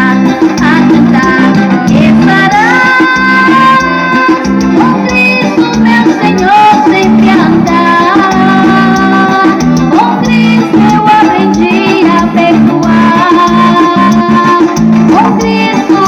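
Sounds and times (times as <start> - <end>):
loud music with steady beat: 0.0 - 16.0
person singing: 0.0 - 16.0.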